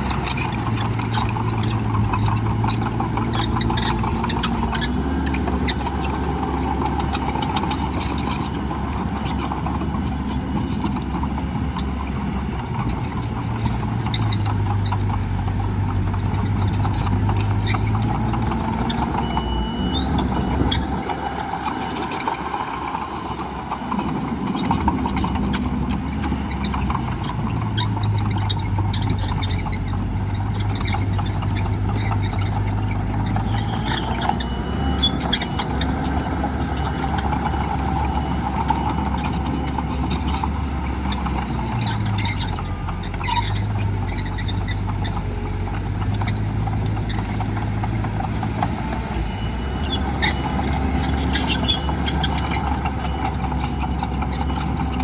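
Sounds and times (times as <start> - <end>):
constant clatter: 0.0 - 55.0
diesel machinery engine: 0.0 - 55.0.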